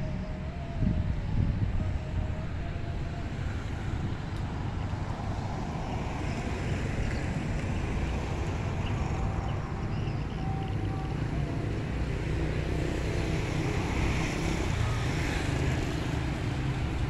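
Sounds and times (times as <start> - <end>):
low rumble of road traffic: 0.0 - 17.0
wind on microphone: 0.0 - 17.0.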